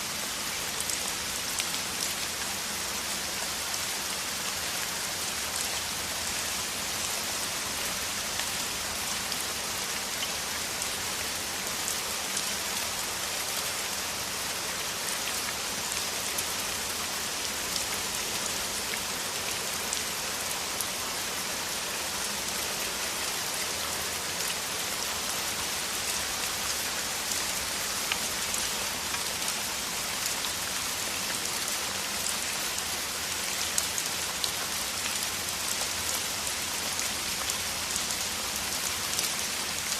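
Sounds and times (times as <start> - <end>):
heavy rain falling on ground: 0.0 - 39.9.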